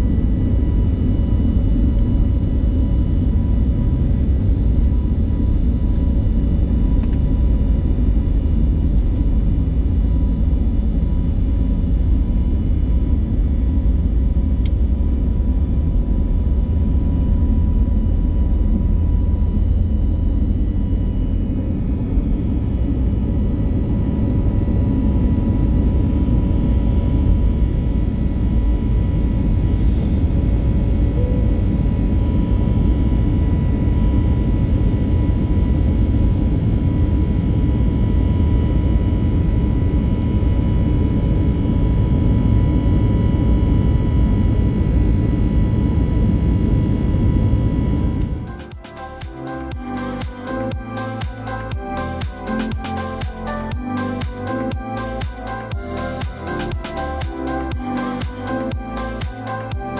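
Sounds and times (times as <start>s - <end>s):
jet engines roaring in cabin: 0.0s - 59.9s.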